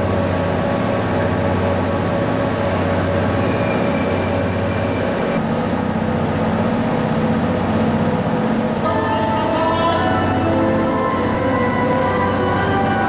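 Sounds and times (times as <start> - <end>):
train mechanical hum: 0.0 - 13.0.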